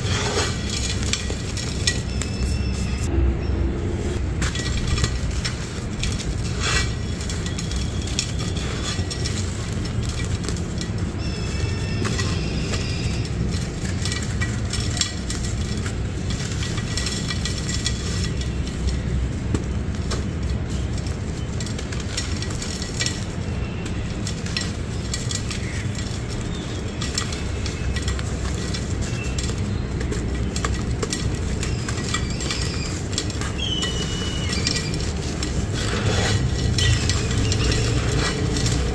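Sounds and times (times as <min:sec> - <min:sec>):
gritty crunching of crumbling cement: 0:00.0 - 0:03.0, 0:04.2 - 0:38.9.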